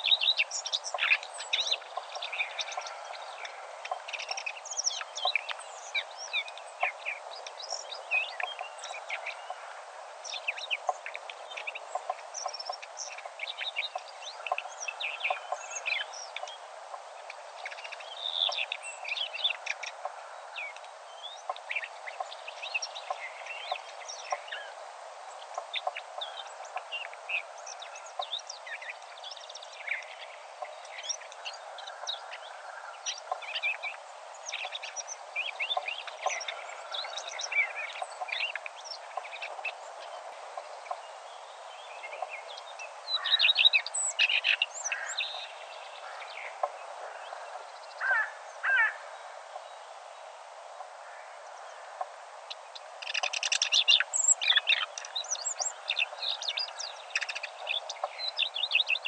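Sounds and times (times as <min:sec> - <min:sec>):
background hiss: 0:00.0 - 0:59.0
songbirds chirping: 0:00.0 - 0:59.0.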